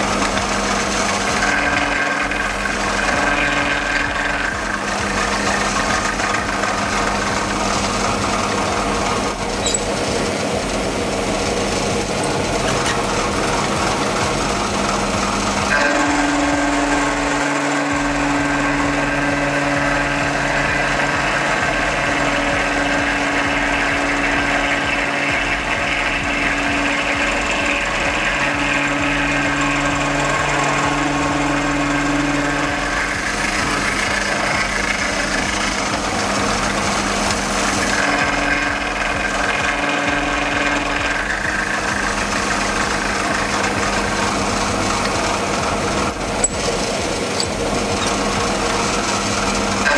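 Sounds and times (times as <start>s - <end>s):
milling machine whirring: 0.0s - 49.9s.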